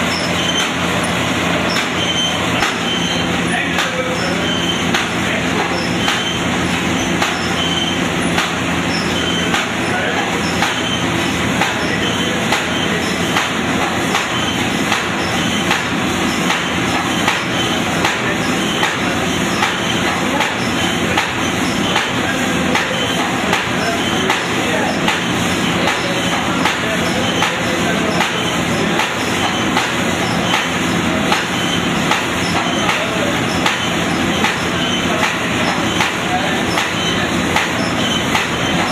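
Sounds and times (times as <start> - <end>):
sharp machine knocks: 0.0 - 11.0, 11.6 - 38.9
machine clattering: 0.0 - 38.9.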